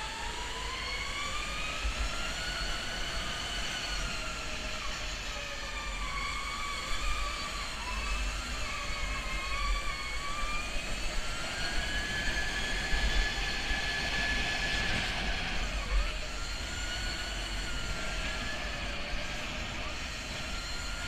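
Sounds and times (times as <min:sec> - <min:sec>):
go-kart motor whining: 0:00.0 - 0:21.0.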